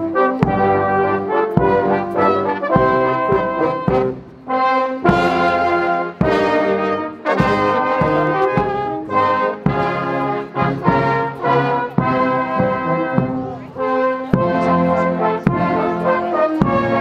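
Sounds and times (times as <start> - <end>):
marching brass band playing: 0.0 - 17.0
bass drum beats: 0.3 - 4.4, 5.0 - 17.0.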